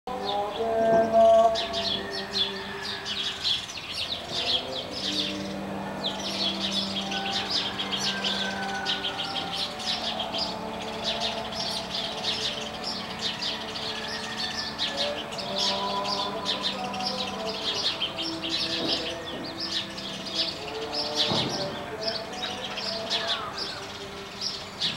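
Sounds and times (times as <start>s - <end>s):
small birds chirping: 0.1s - 24.9s.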